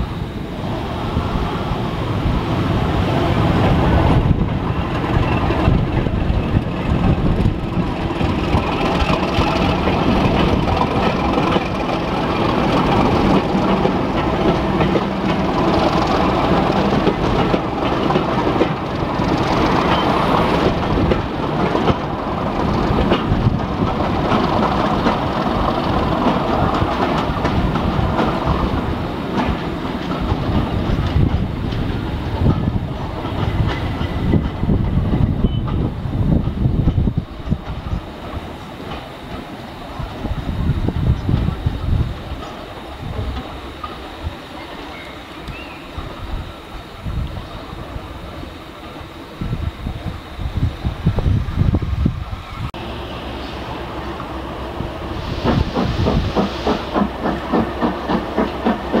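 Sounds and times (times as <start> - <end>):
diesel locomotive running: 0.0 - 59.0
wheels clicking over rail joints: 3.1 - 52.9, 55.4 - 59.0.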